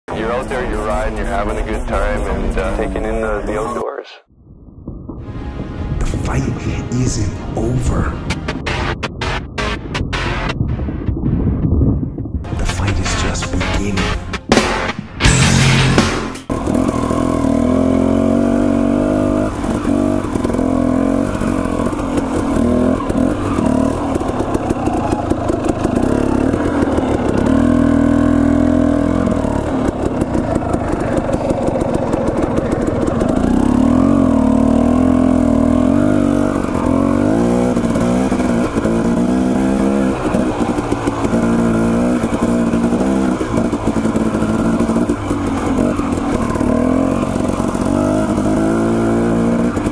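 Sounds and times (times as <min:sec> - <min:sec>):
dirt bike engine revving: 0:00.1 - 0:03.8, 0:12.8 - 0:49.9.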